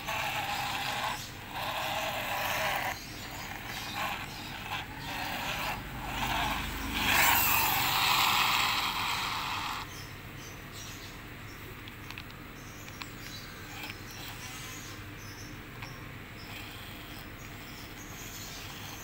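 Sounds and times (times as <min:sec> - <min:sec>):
toy car mechanism whirring: 0:00.0 - 0:09.9, 0:11.7 - 0:19.0.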